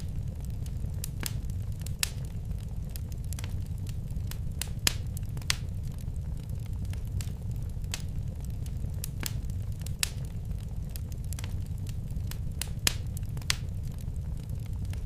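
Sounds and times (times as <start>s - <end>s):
fire rumbling: 0.0s - 15.0s
wood fire crackling and popping: 0.0s - 15.0s.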